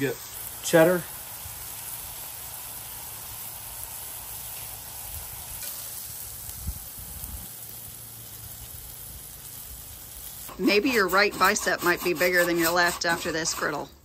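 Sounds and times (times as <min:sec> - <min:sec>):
burger patties sizzling on griddle: 0:00.0 - 0:14.0.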